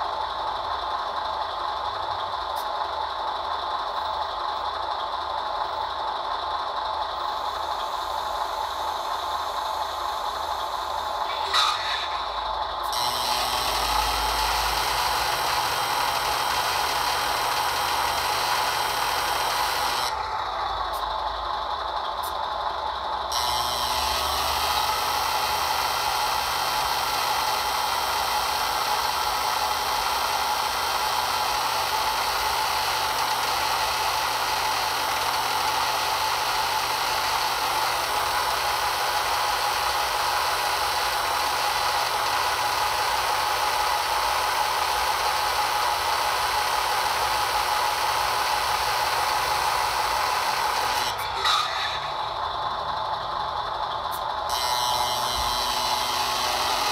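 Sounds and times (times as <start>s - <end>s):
hydraulic pump whirring: 0.1s - 56.9s.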